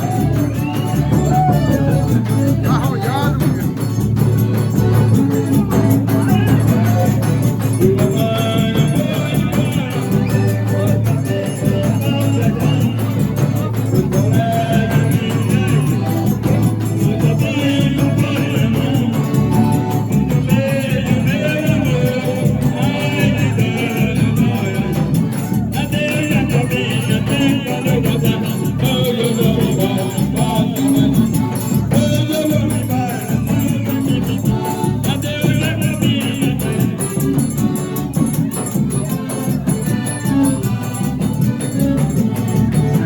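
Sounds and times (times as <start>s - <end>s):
person singing: 0.0s - 3.7s, 5.2s - 43.0s.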